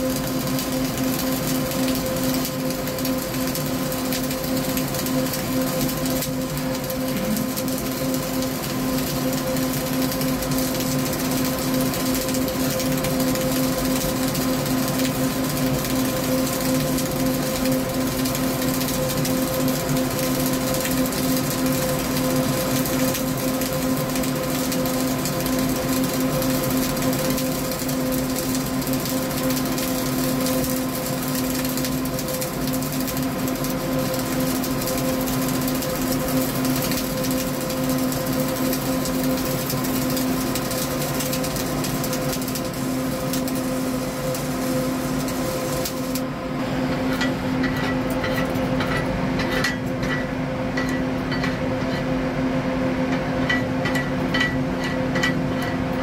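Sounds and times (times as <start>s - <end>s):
steady hum: 0.0s - 18.0s, 21.6s - 56.0s
welding arc crackle: 0.0s - 52.1s, 53.2s - 56.0s.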